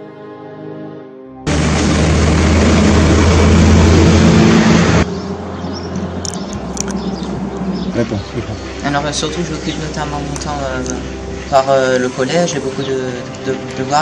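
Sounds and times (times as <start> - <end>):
outdoor ambience: 1.5 - 14.0
vehicle passing by: 1.5 - 14.0.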